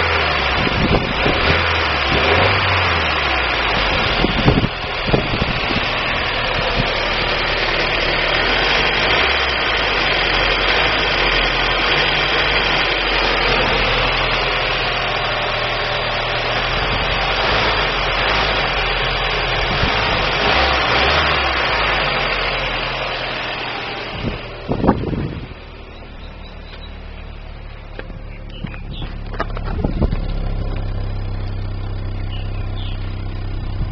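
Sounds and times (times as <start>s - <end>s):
car engine idling with misfire: 0.0s - 33.9s.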